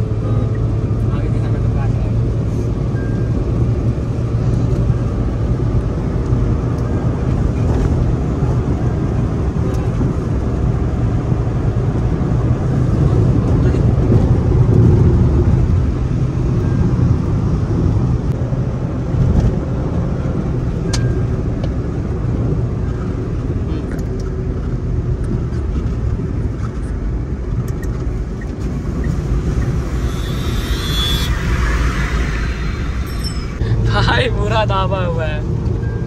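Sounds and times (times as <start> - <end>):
car engine drone inside cabin: 0.0 - 36.0
road and wind noise: 0.0 - 36.0.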